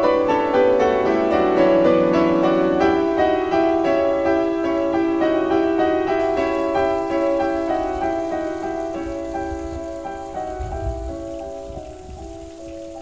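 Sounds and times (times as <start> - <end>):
piano playing held chords: 0.0 - 13.0.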